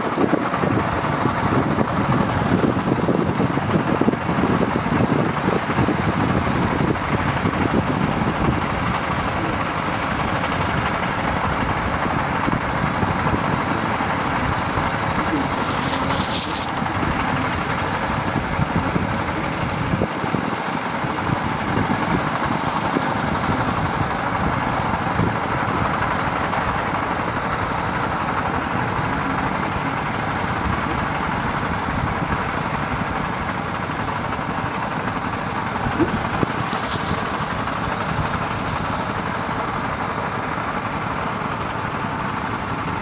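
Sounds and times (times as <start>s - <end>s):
diesel engine running under load: 0.0s - 43.0s.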